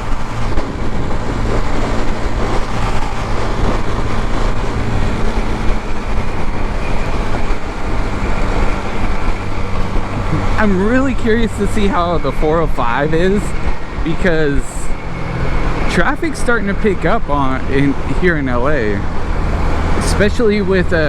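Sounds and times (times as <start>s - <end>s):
motorcycle engine cruising: 0.0s - 21.0s
wind and road noise: 0.0s - 21.0s.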